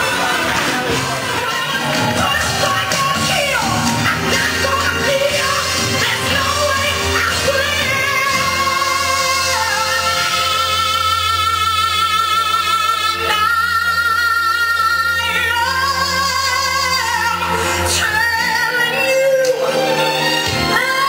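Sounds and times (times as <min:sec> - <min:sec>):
instrumental backing music: 0:00.0 - 0:21.0
woman singing with vibrato: 0:00.0 - 0:21.0.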